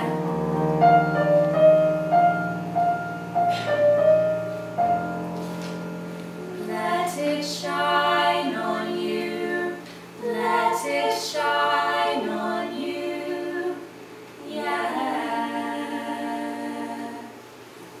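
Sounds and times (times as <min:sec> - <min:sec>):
steady low tone: 0:00.0 - 0:17.3.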